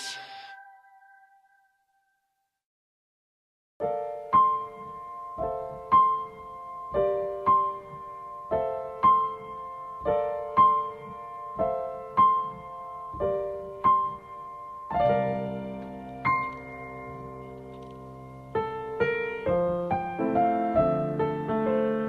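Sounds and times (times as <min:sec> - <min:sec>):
gentle piano music: 0:03.8 - 0:22.0.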